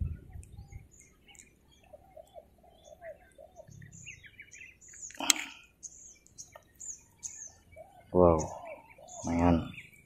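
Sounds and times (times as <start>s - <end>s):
birds calling: 0.0s - 10.0s
high bird chirps: 0.0s - 10.0s.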